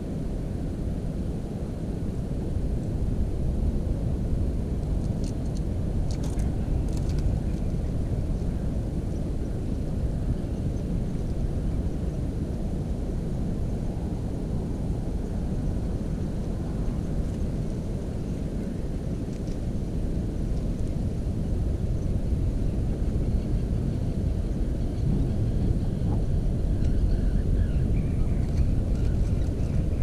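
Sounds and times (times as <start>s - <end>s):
low rumbling outdoor noise: 0.0s - 30.0s.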